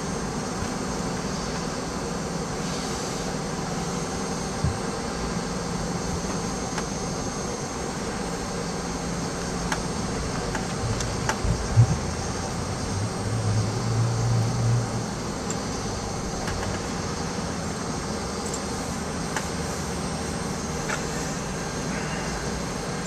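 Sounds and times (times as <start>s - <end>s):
hum of engines and air conditioning: 0.0s - 23.0s.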